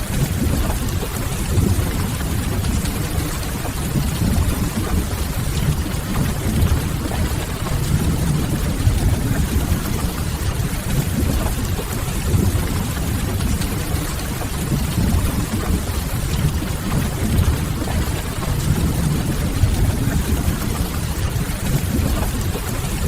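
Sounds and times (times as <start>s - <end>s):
steady rain: 0.0s - 23.0s
deep even rumble: 0.2s - 22.5s.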